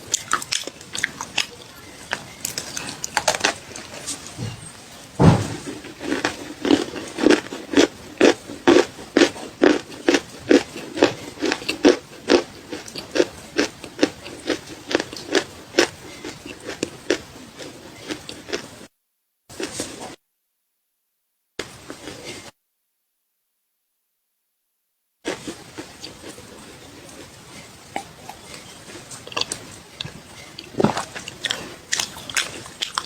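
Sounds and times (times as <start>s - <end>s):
chewing crunches: 0.0s - 18.8s, 25.3s - 33.0s.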